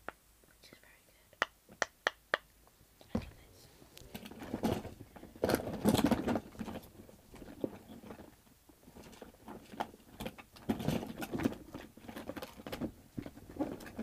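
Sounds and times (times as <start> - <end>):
hands tapping and rustling: 0.0 - 14.0.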